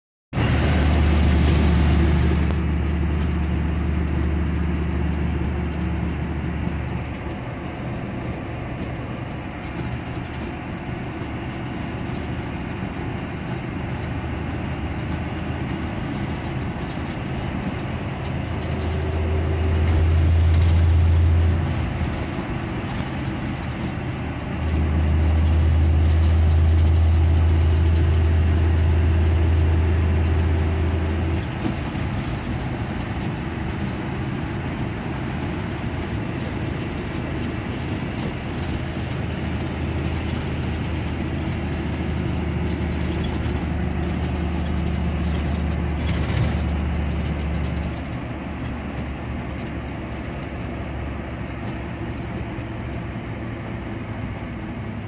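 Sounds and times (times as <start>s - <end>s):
road noise: 0.3s - 55.0s
truck engine drone: 0.3s - 55.0s.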